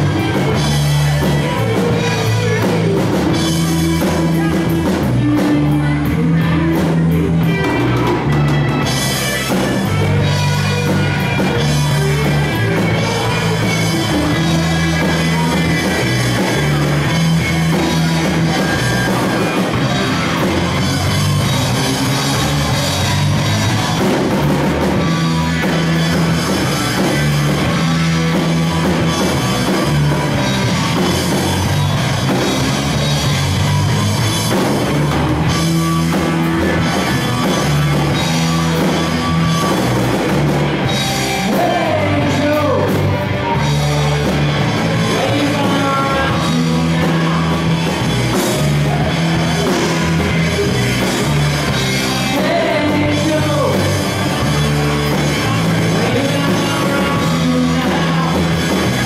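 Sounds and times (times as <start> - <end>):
drum kit: 0.0 - 59.0
electric bass: 0.0 - 59.0
electric guitars: 0.0 - 59.0.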